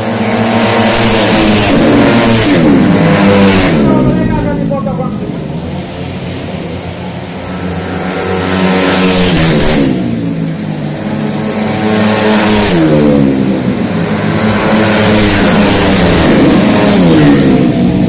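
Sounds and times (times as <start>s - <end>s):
scooter engine revving hard: 0.0s - 18.0s.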